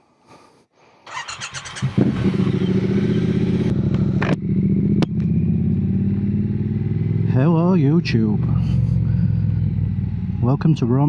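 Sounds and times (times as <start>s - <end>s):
motorcycle engine idling: 1.1s - 11.0s.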